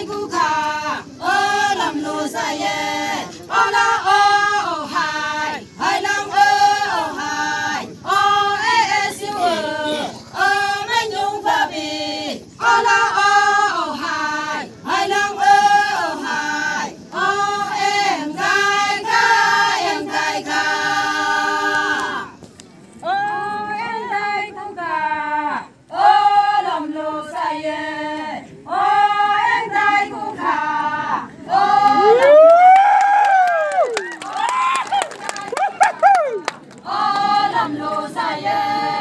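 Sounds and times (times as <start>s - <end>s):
women singing in unison: 0.0s - 39.0s.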